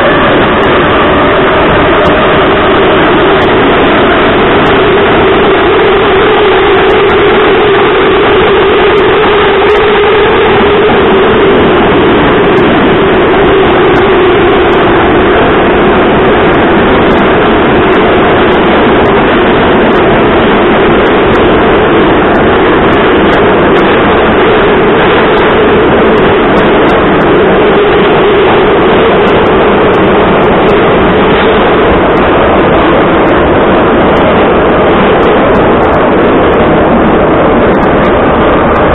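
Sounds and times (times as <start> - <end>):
roar of train wheels on rails: 0.0 - 38.9
steady hum: 0.0 - 38.9.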